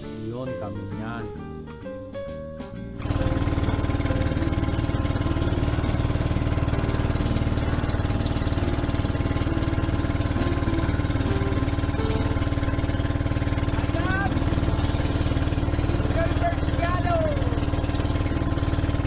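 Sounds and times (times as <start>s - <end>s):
boat engine chugging: 3.0s - 19.0s.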